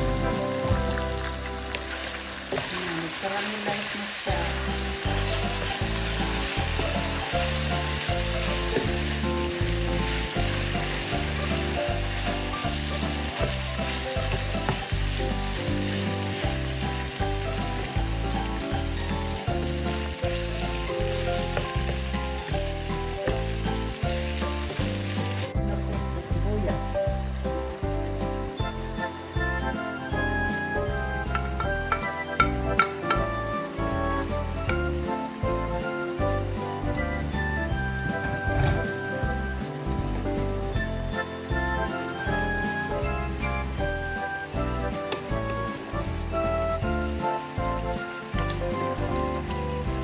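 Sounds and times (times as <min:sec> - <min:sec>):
music with bass beat: 0:00.0 - 0:01.5, 0:04.7 - 0:25.8, 0:26.4 - 0:50.0
meat sizzling in a frying pan: 0:00.0 - 0:50.0.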